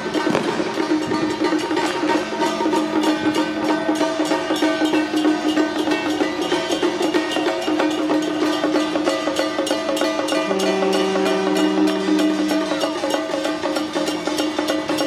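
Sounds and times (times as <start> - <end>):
fast dense percussion: 0.0 - 15.0
sustained pitched melody: 0.0 - 15.0.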